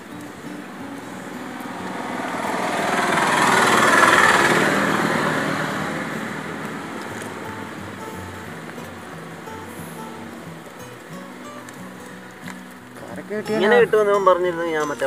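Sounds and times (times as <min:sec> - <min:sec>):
vehicle passing by: 0:00.0 - 0:13.9.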